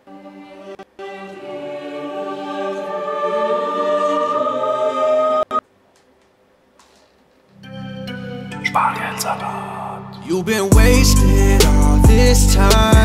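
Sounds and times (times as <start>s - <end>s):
held choir-like chord: 0.0s - 5.6s, 7.8s - 13.0s.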